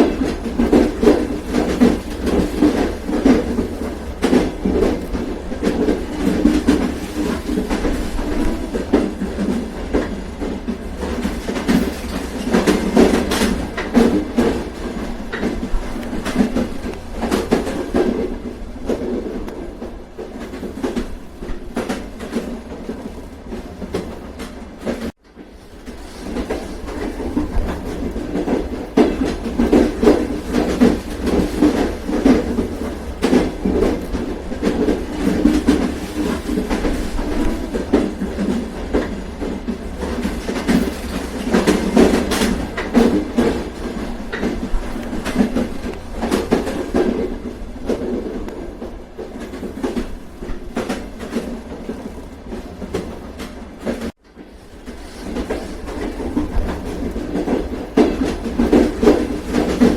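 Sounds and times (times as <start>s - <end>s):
train rumbling: 0.0s - 59.9s
wheels clacking over rail joints: 0.0s - 59.9s.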